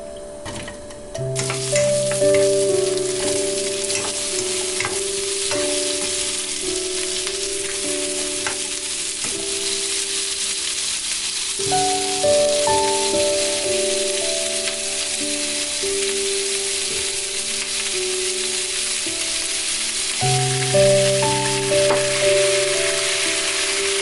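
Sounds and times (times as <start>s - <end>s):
background music: 0.0s - 24.0s
food sizzling in a pan: 1.2s - 24.0s.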